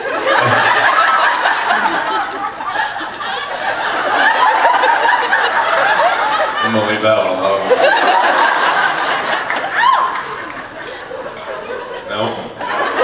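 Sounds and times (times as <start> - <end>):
large audience laughing: 0.0 - 13.0.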